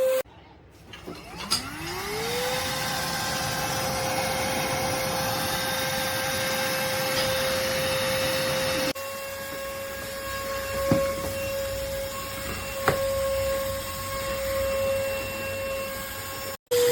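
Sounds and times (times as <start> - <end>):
vacuum motor whine: 1.6 - 16.9.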